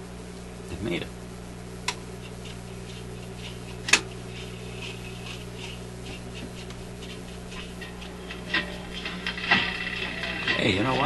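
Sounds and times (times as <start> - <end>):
faint record sound: 0.0 - 11.0
record player hum: 0.0 - 11.0.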